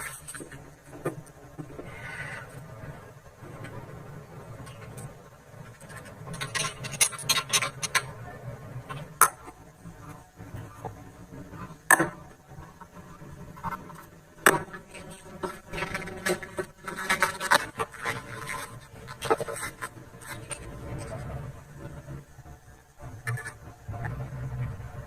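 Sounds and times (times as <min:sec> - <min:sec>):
scraping and rubbing: 0:00.0 - 0:11.9, 0:12.7 - 0:22.1.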